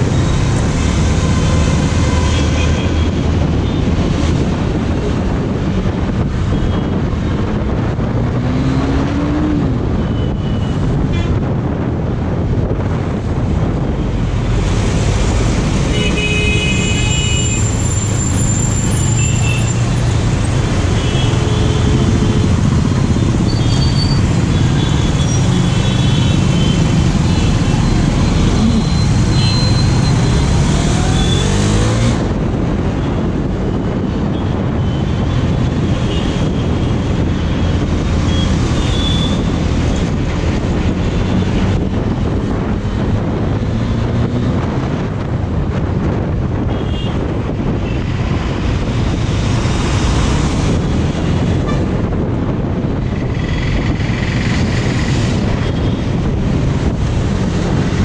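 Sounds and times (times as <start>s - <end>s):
traffic and road noise: 0.0s - 58.0s.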